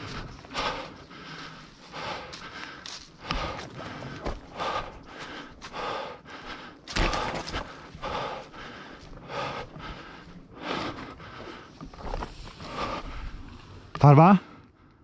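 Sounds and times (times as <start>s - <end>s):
person breathing hard: 0.0s - 13.8s.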